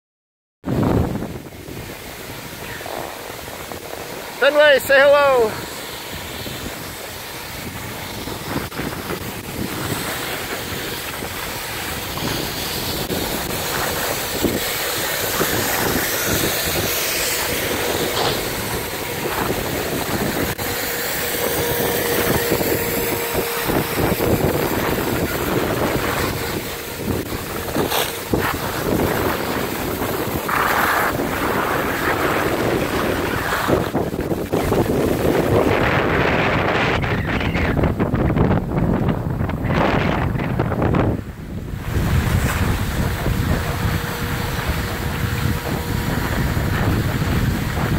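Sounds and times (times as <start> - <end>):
wind rushing over microphone: 0.6 - 47.9
skis scraping on packed snow: 1.3 - 36.8, 41.7 - 47.9.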